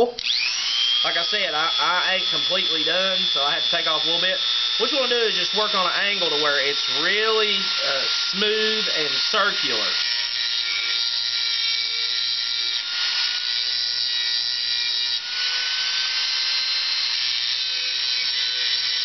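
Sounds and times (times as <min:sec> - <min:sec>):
rotary tool grinding steel: 0:00.0 - 0:19.0.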